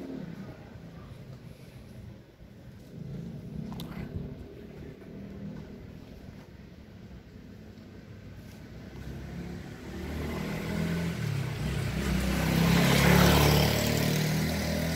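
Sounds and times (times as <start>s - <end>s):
vehicle engine approaching: 0.0s - 14.9s.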